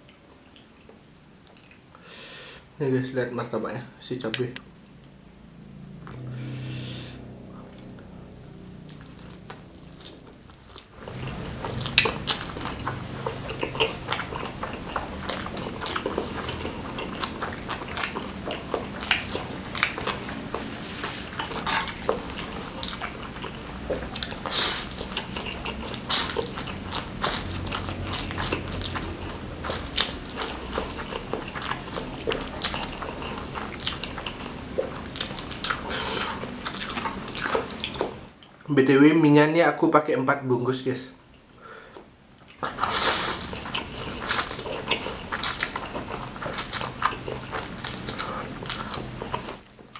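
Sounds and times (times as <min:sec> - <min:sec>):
person chewing and smacking food: 0:00.0 - 0:02.0, 0:07.5 - 0:38.7, 0:41.2 - 0:49.9.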